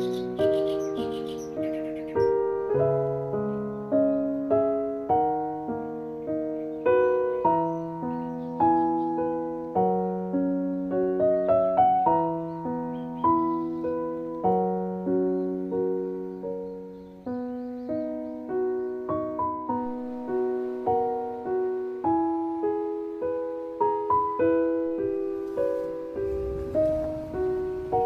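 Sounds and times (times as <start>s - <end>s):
soft slow solo piano: 0.0s - 28.0s.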